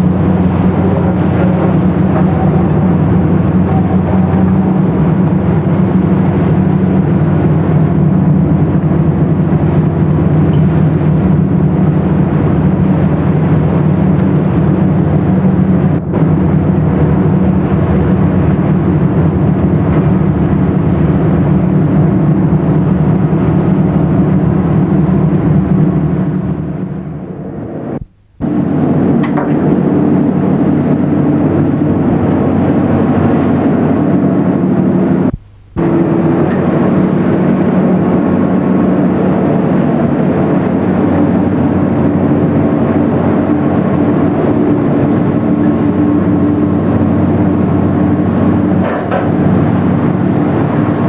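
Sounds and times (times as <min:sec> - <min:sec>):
diesel engine droning: 0:00.0 - 0:51.0
water rushing along hull: 0:00.0 - 0:51.0.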